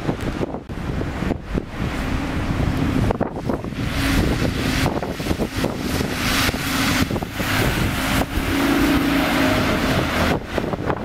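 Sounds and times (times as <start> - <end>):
bus engine hum: 0.0 - 11.0
wind buffeting microphone: 0.0 - 11.0.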